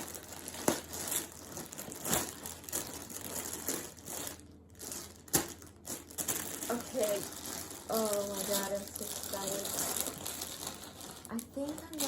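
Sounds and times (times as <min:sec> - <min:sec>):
packaging crinkling and rustling: 0:00.0 - 0:12.0
sharp packaging cracks: 0:00.0 - 0:12.0.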